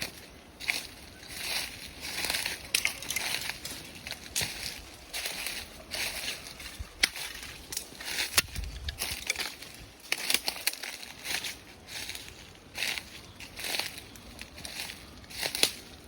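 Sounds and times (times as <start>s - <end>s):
crunching and crackling: 0.0s - 16.0s.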